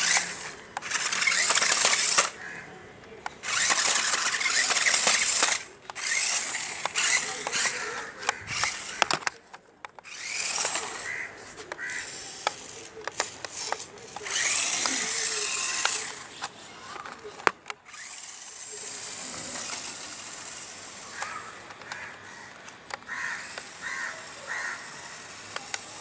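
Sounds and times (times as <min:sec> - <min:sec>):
toy car electric motor whirring: 0:00.0 - 0:02.6, 0:03.2 - 0:26.0.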